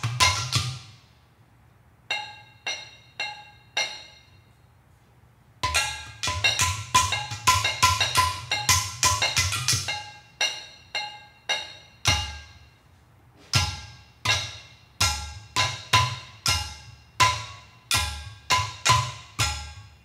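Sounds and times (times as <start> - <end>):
clay bowls struck with mallets: 0.0 - 1.1, 2.1 - 4.6, 5.6 - 12.8, 13.5 - 20.0.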